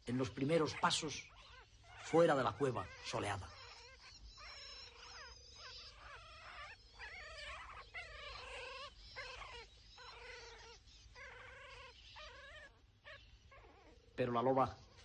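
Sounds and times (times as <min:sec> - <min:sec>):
wolf pups whimpering: 0:00.0 - 0:15.0.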